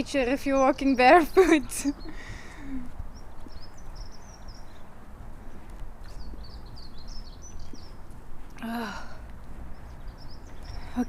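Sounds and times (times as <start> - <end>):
small bird chirping: 0.0 - 8.8, 9.6 - 11.0.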